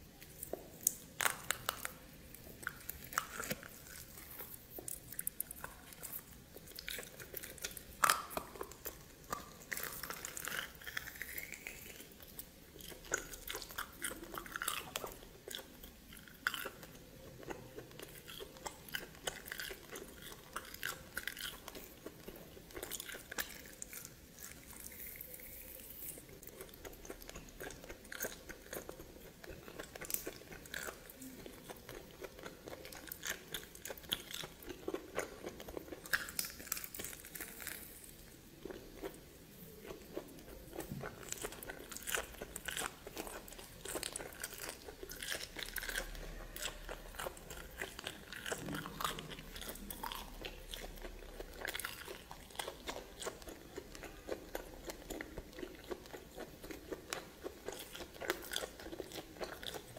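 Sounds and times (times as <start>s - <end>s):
person chewing with crunches: 0.0s - 59.9s.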